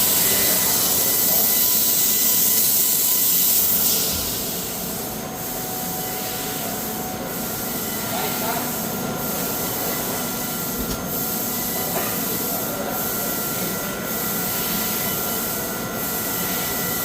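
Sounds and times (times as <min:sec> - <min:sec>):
metal-cutting machinery hissing: 0:00.0 - 0:17.0.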